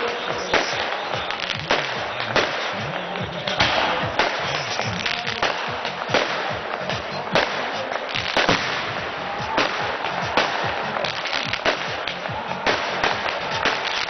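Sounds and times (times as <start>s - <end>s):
crackling hiss: 0.0s - 14.0s
fireworks bangs and cracks: 0.0s - 14.0s.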